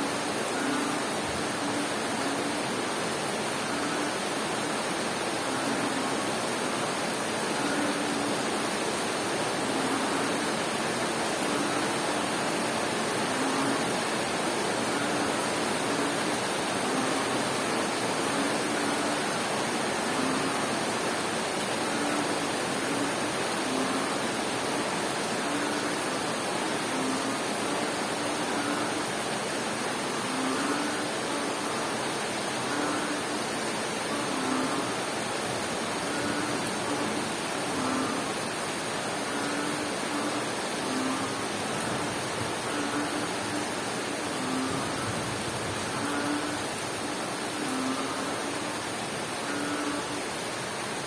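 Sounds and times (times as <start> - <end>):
steady rain falling: 0.0 - 51.0
frog croaking low: 0.1 - 2.7, 3.5 - 8.6, 9.6 - 10.6, 11.3 - 50.5.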